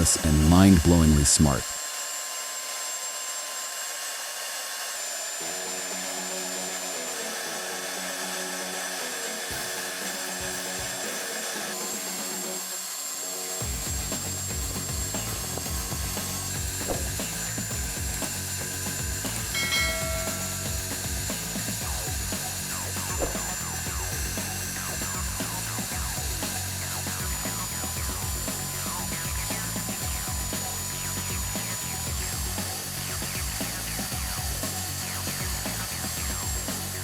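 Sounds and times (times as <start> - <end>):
power tool running: 0.0 - 37.0
background music: 5.4 - 37.0.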